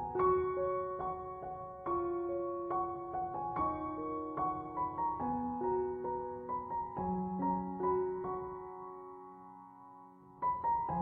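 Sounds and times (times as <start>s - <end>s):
soft piano notes: 0.0s - 11.0s.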